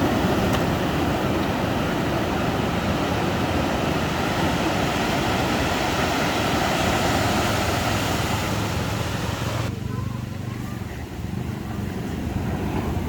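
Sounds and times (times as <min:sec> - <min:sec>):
ocean surf on a beach: 0:00.0 - 0:09.8, 0:10.6 - 0:13.0.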